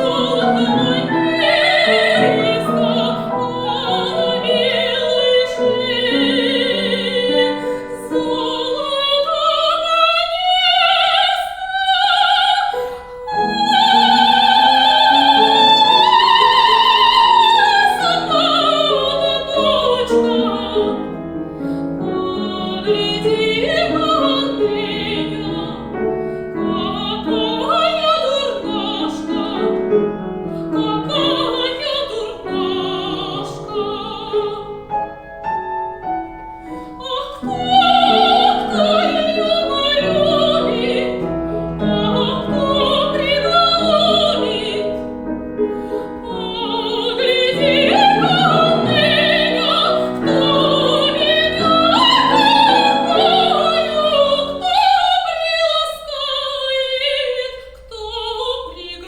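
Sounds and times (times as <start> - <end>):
operatic soprano singing: 0.0 - 35.4, 36.6 - 59.0
piano accompaniment: 0.0 - 59.0.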